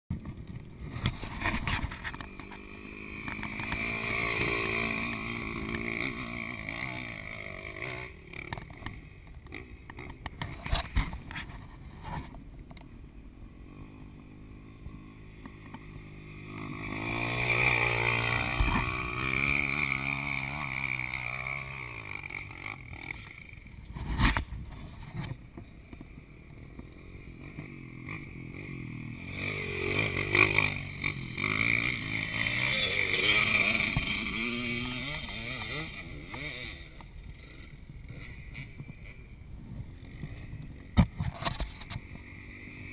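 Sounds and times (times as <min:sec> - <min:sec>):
motorcycle engine revving: 0:00.1 - 0:12.4, 0:13.4 - 0:42.9.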